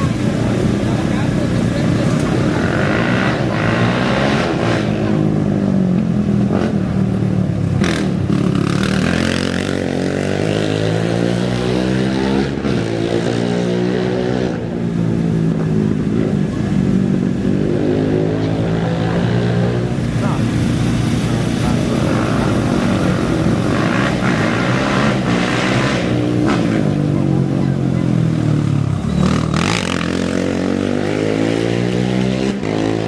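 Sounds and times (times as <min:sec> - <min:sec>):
engines idling and revving: 0:00.0 - 0:33.0.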